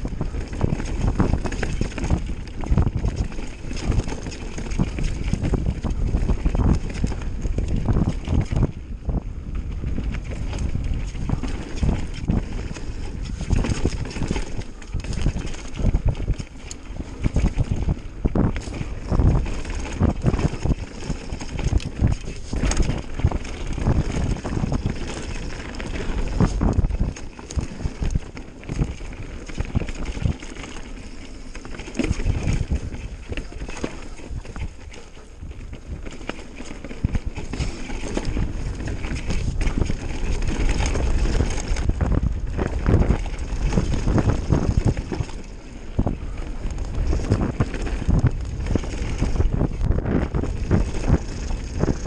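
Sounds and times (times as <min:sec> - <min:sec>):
bike rattling and knocking: 0:00.0 - 0:52.0
bike tyres rumbling over dirt: 0:00.0 - 0:52.0
wind buffeting microphone: 0:00.0 - 0:52.0.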